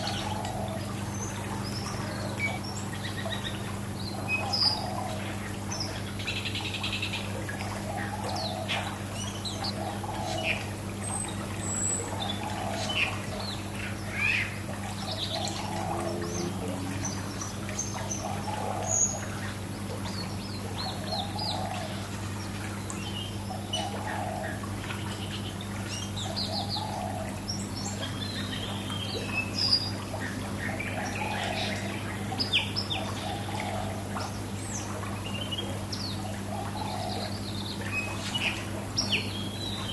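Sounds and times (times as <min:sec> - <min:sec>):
steady low hum: 0:00.0 - 0:39.9
trickling water: 0:00.0 - 0:39.9.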